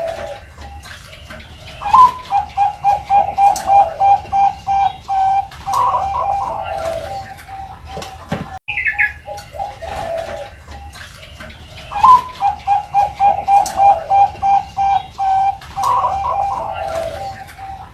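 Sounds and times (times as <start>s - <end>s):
dove cooing: 0.0s - 17.9s.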